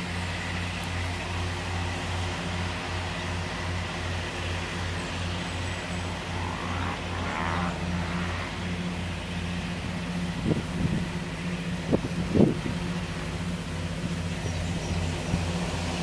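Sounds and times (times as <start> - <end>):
mower cutting grass: 0.0 - 16.0
tractor diesel engine droning: 0.0 - 16.0.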